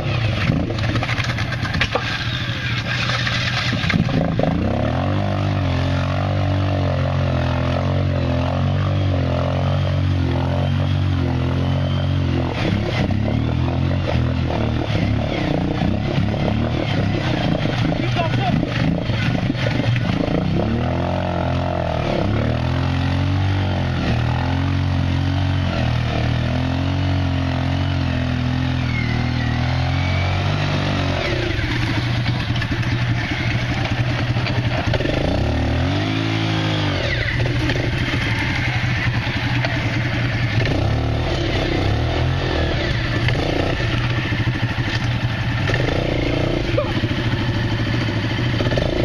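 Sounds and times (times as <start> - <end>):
quad bike engine revving: 0.0 - 49.0.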